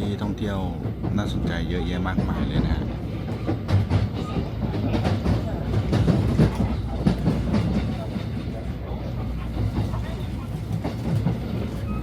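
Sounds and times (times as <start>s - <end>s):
train rumbling on rails: 0.0s - 12.0s
wheels clicking on track: 0.0s - 12.0s.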